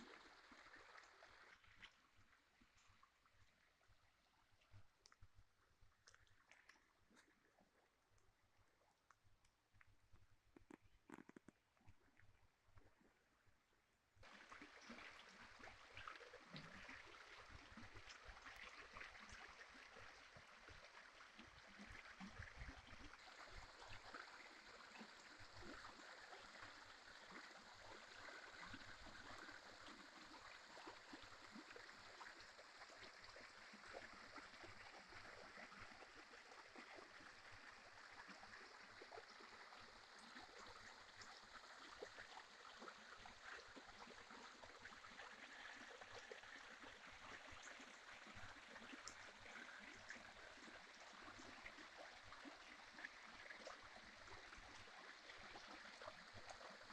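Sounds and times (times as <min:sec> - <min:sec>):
small stream babbling: 0:00.0 - 0:56.9.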